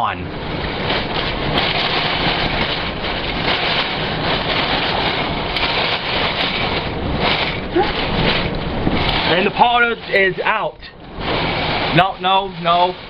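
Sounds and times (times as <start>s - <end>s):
storm wind rushing: 0.0s - 13.0s.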